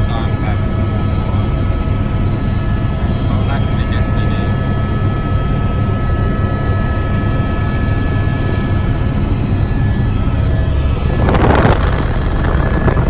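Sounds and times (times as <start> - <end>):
helicopter rotor and engine rumble: 0.0 - 13.0.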